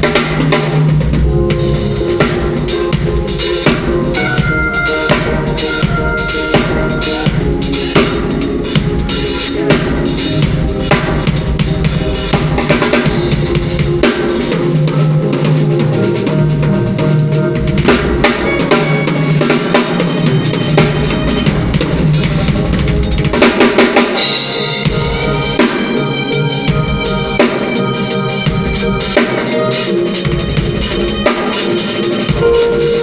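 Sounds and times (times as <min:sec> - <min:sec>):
drum kit with snare and rim shots: 0:00.0 - 0:33.0
live band playing: 0:00.0 - 0:33.0.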